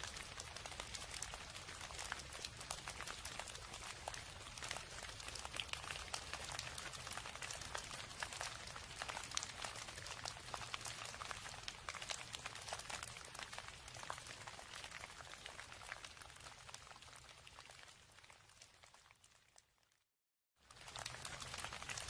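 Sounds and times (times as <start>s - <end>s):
steady rain: 0.0s - 17.7s, 20.7s - 22.0s.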